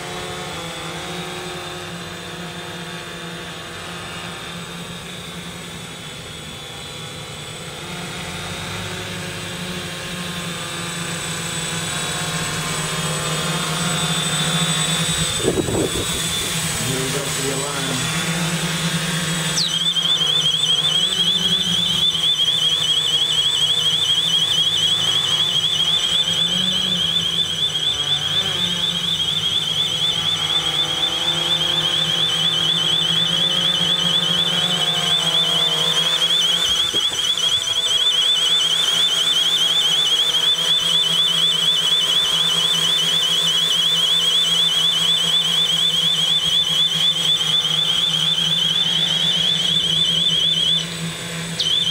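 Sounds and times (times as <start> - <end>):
high-pitched warbling siren: 0.0 - 51.9
quadcopter motors humming: 0.0 - 51.9.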